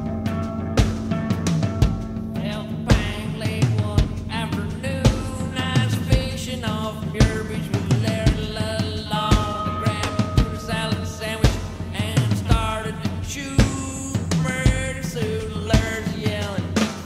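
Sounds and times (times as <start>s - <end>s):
rock music with singing: 0.0s - 17.0s
steady drum beat: 0.0s - 17.0s.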